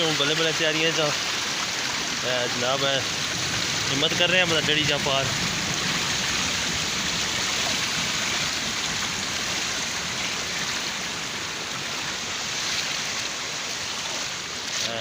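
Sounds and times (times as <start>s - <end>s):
water rushing in stream: 0.0s - 15.0s.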